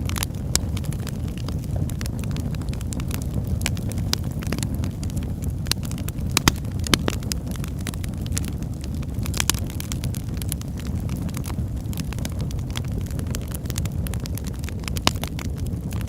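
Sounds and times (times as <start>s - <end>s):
sharp pops and snaps: 0.0s - 16.0s
wood fire crackling: 0.0s - 16.0s.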